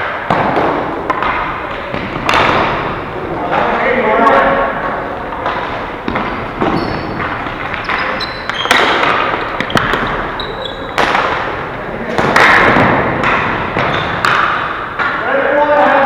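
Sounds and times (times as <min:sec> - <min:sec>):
ball striking sticks and boards: 0:00.0 - 0:16.0
players shouting: 0:00.0 - 0:16.0.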